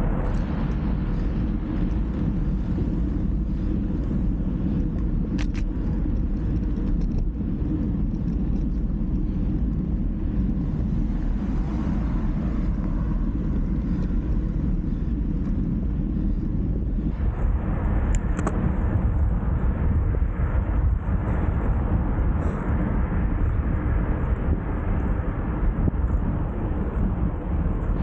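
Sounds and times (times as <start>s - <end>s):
wind and road noise rumble: 0.0s - 28.0s.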